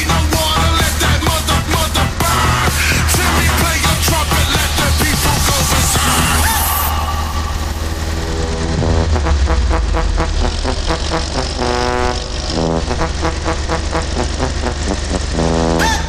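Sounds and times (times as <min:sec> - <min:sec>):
electronic dance music: 0:00.0 - 0:14.4.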